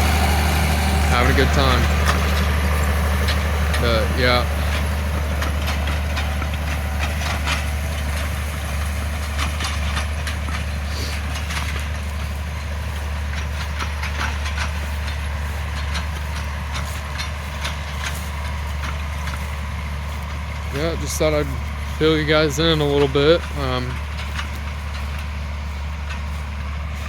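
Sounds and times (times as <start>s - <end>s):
tractor engine droning: 0.0s - 27.0s.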